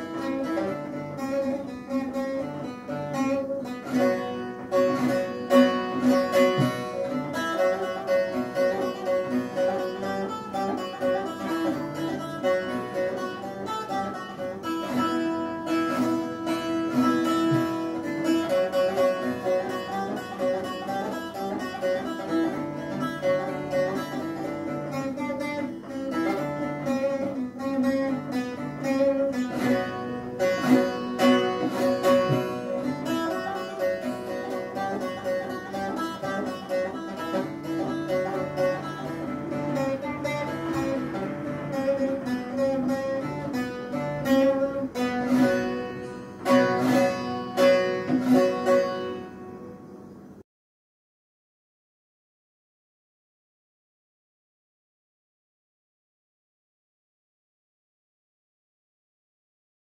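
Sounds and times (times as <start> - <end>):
long-necked lute folk melody: 0.0 - 50.4.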